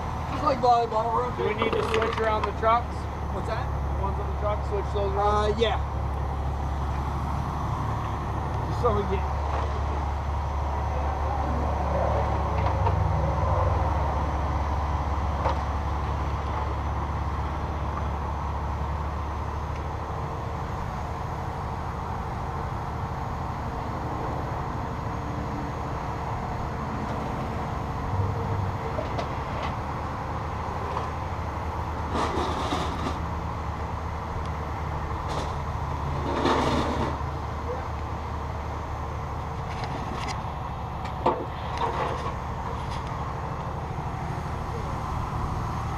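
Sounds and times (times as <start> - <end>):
diesel truck engine rumbling: 0.0 - 45.9.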